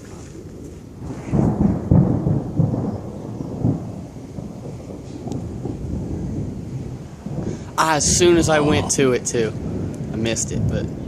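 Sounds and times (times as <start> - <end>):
heavy raindrops pattering: 0.0 - 11.0.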